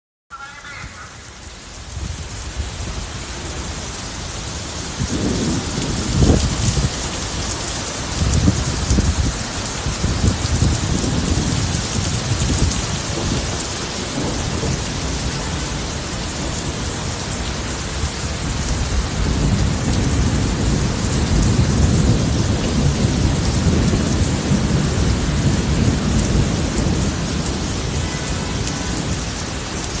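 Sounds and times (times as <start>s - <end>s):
heavy rain pouring: 0.3s - 30.0s.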